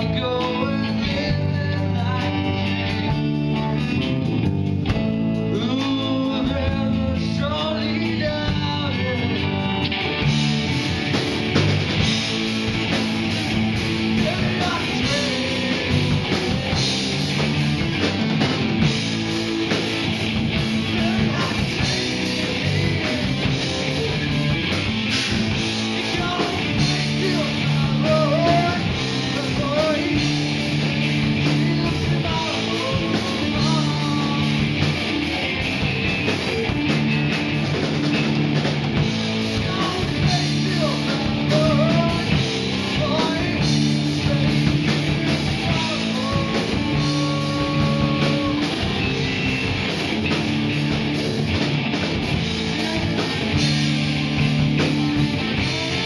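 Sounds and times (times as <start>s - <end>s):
drum kit: 0.0s - 56.0s
electric bass: 0.0s - 56.0s
electric guitars: 0.0s - 56.0s.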